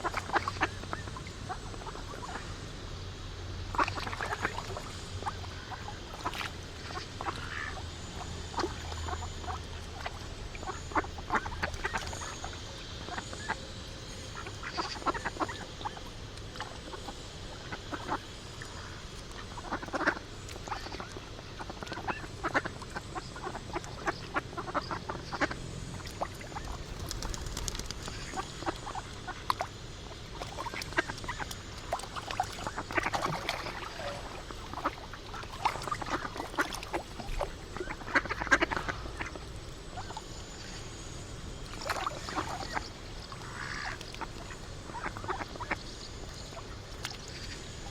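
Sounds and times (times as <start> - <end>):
faint low hum: 0.0 - 47.9
ducks quacking: 3.7 - 13.6, 14.3 - 16.0, 16.6 - 29.8, 30.4 - 40.5, 41.8 - 45.8.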